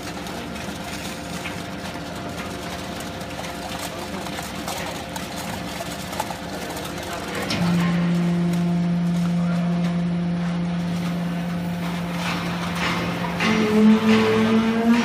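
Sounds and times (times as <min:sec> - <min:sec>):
electric motor and pump humming: 0:00.0 - 0:15.0.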